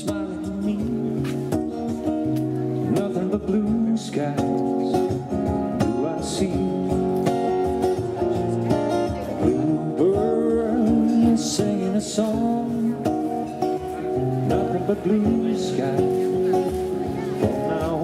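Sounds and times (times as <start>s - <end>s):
acoustic guitar: 0.0s - 18.0s
man singing into a microphone: 0.0s - 18.0s.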